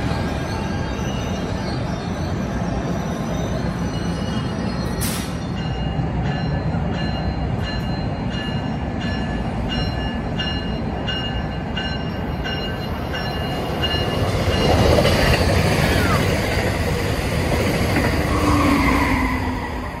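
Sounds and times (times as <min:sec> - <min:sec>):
train bell ringing: 0:00.0 - 0:16.2
low rumble of train: 0:00.0 - 0:20.0.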